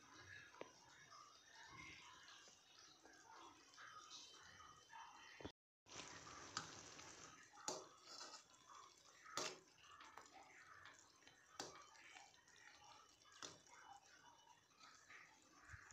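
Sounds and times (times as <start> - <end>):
soft wet liquid stirring: 0.0 - 15.9.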